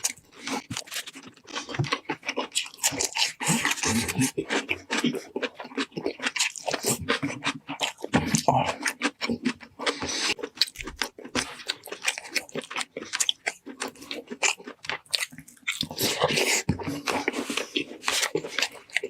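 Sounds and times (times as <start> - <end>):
chewing and biting meat: 0.0 - 19.0.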